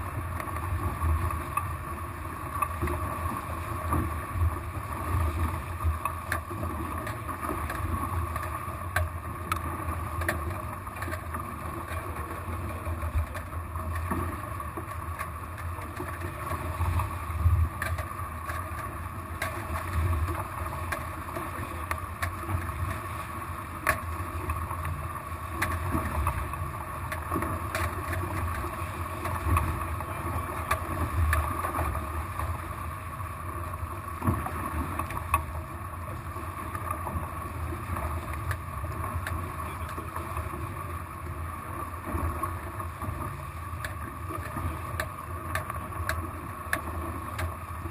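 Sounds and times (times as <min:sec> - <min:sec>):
water rushing along boat hulls: 0:00.0 - 0:47.9.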